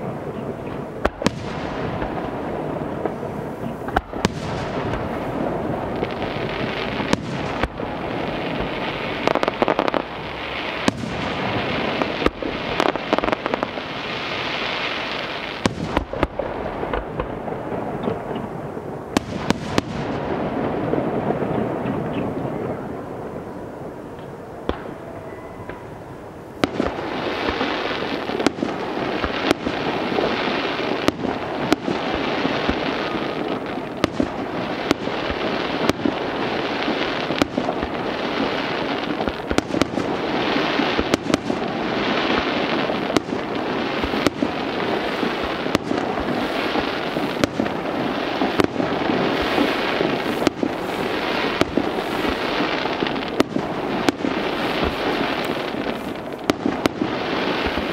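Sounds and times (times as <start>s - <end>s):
fireworks hiss and crackle: 0.0s - 57.9s.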